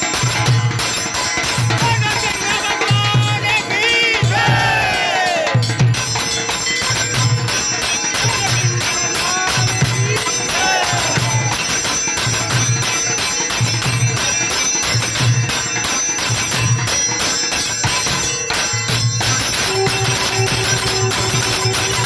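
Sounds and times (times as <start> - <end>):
bells and cymbals clanging: 0.0 - 22.0
steady low drumbeat: 0.0 - 22.0.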